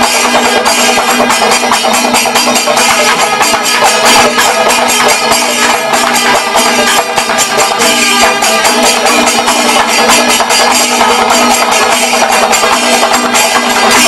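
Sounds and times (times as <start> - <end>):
brass cymbals ringing: 0.0 - 14.0
hand drums playing fast: 0.0 - 14.0.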